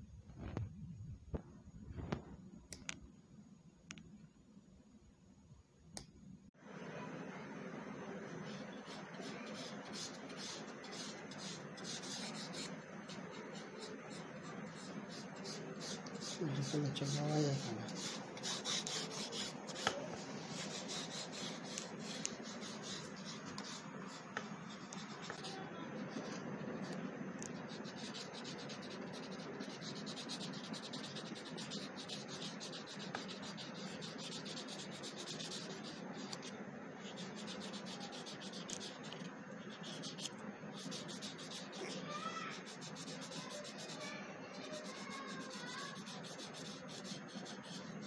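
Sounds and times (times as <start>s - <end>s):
marker rubbing on wooden stick: 8.3s - 48.0s.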